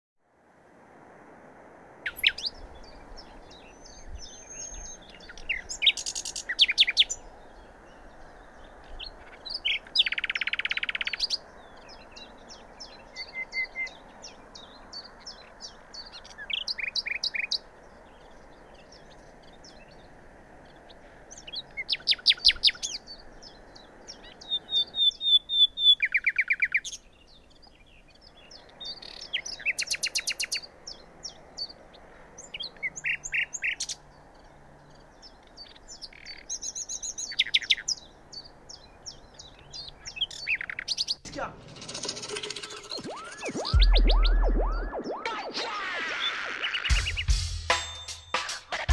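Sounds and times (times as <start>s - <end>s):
steady background hiss: 0.3s - 41.8s
songbirds chirping and trilling: 0.5s - 48.9s.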